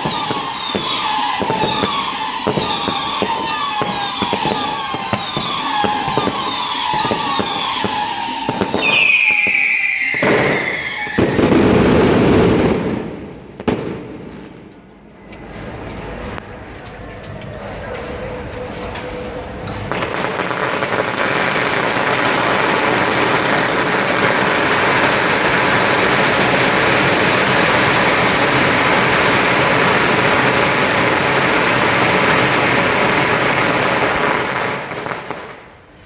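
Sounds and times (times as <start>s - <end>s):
firecracker machine crackling bangs: 0.0s - 14.8s, 19.8s - 35.7s.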